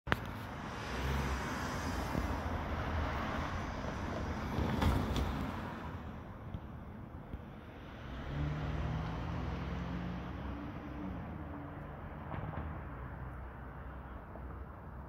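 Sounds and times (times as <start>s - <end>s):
car passing on road: 0.1s - 15.0s.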